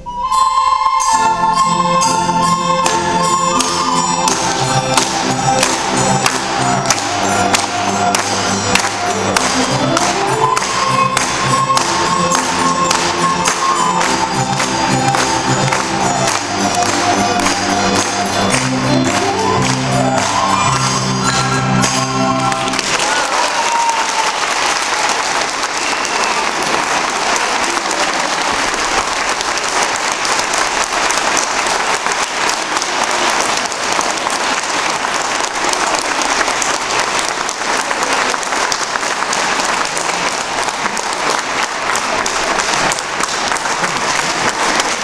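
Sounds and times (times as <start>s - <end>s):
orchestra playing: 0.0s - 45.0s
audience applause: 2.9s - 45.0s.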